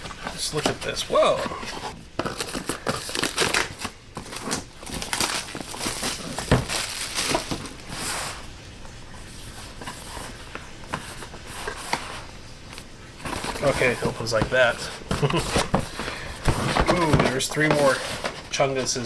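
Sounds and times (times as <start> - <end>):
packaging rustling and scraping: 0.0 - 8.5, 9.1 - 19.0.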